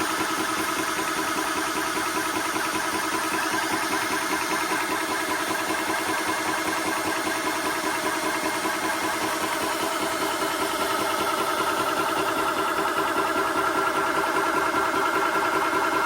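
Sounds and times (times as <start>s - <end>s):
air compressor chattering: 0.0s - 16.0s.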